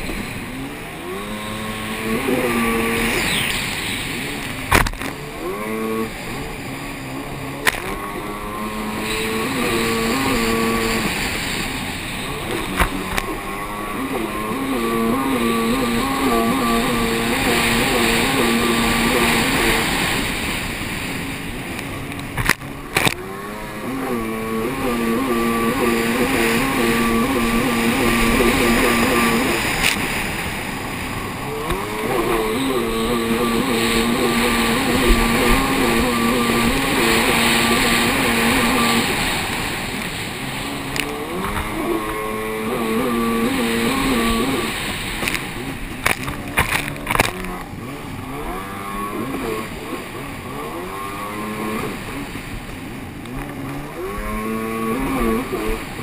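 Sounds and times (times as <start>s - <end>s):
jet ski engine revving: 0.0s - 56.0s
wind: 0.0s - 56.0s.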